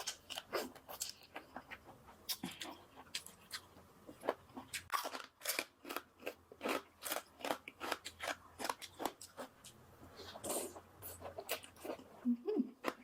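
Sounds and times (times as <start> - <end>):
crunchy food being chewed: 0.0 - 12.2.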